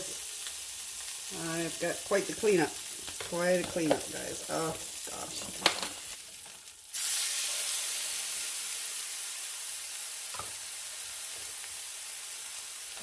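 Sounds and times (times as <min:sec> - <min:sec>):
loud sizzle in a pan: 0:00.0 - 0:13.0.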